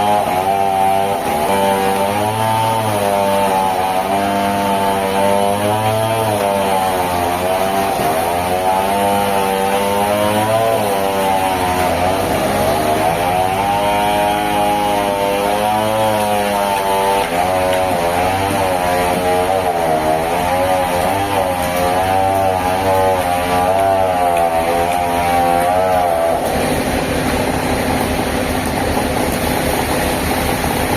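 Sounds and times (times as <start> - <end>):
sawmill engine running: 0.0 - 30.9.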